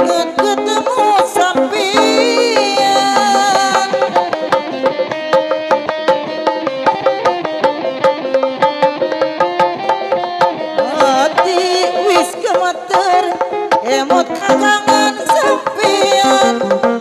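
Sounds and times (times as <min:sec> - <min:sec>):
drums struck rapidly with sticks: 0:00.0 - 0:17.0
held melody line: 0:00.0 - 0:17.0.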